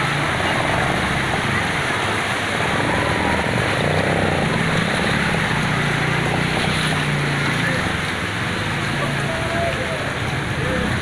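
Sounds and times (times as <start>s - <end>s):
floodwater rushing and splashing: 0.0s - 11.0s
motorcycle engine humming: 0.0s - 11.0s.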